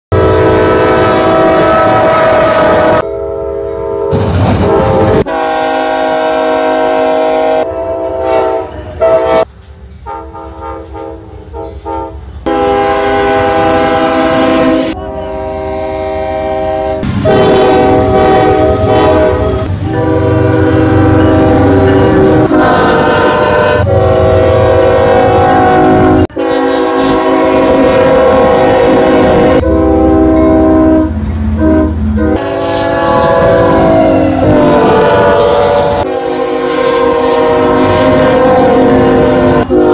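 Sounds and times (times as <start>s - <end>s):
diesel locomotive horns: 0.1s - 39.9s
passing train rumble: 0.1s - 39.9s.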